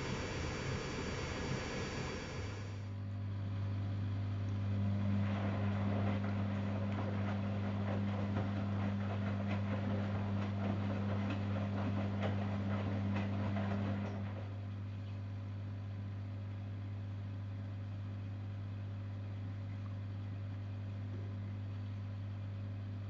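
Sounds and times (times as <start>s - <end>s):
low electrical hum: 0.0s - 23.0s
washing machine running: 0.0s - 23.0s.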